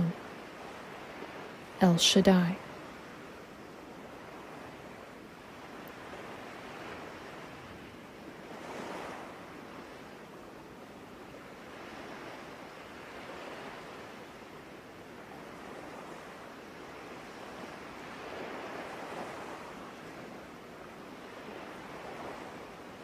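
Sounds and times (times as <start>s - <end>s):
ocean surf: 0.0s - 23.0s.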